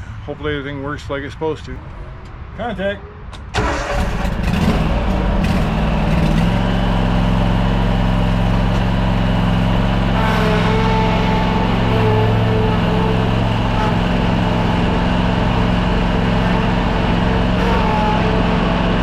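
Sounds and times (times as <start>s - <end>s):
mower engine starting and revving: 3.5s - 19.0s.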